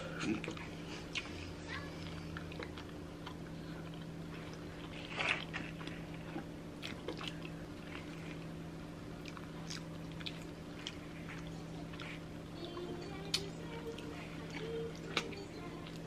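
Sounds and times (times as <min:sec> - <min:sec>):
people chewing pizza crust: 0:00.0 - 0:16.0
steady low hum: 0:00.0 - 0:16.0.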